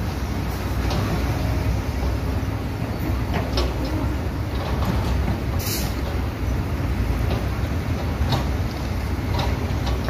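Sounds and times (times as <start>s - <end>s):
diesel engines rumbling: 0.0s - 10.0s.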